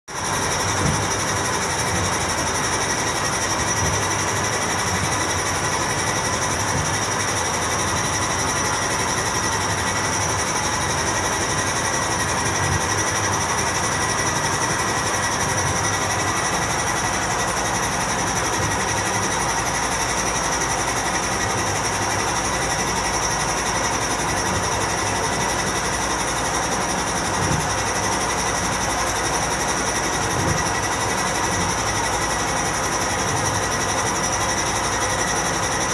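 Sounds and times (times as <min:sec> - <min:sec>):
steady mechanical whine: 0:00.1 - 0:35.9
washing machine spinning: 0:00.1 - 0:35.9.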